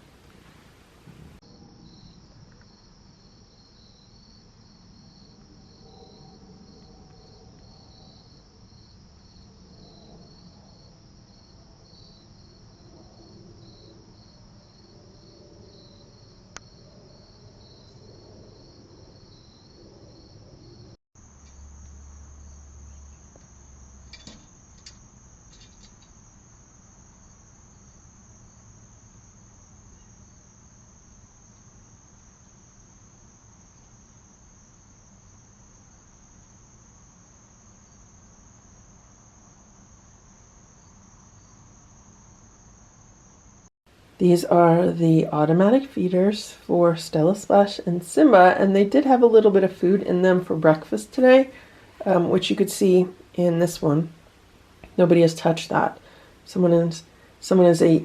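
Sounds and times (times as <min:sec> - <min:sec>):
crickets trilling: 0:00.0 - 0:58.0
pulsing cricket chirp: 0:00.0 - 0:58.0.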